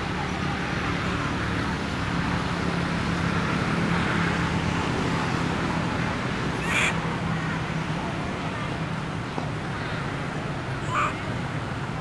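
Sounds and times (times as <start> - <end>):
traffic drone: 0.0 - 12.0.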